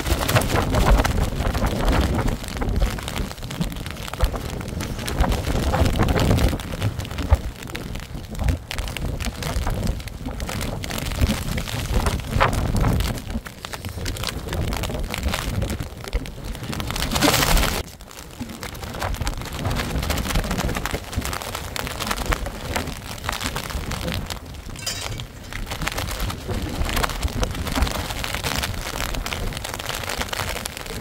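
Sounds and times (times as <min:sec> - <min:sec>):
gusty wind buffeting microphone: 0:00.0 - 0:31.0.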